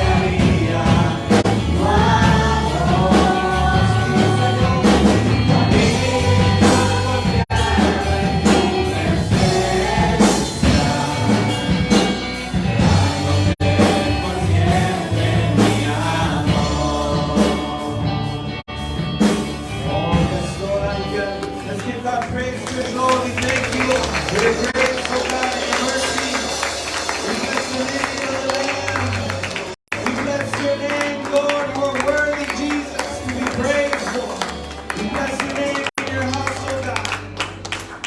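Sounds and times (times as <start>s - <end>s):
worship music with band: 0.0s - 38.0s.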